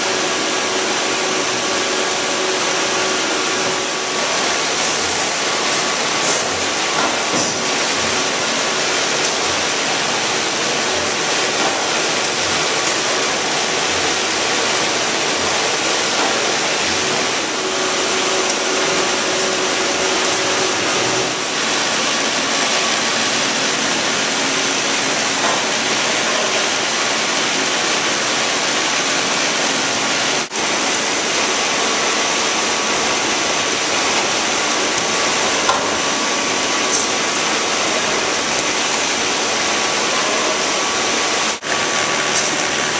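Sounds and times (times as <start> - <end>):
conveyor belts running: 0.0 - 42.9
ventilation hum: 0.0 - 42.9.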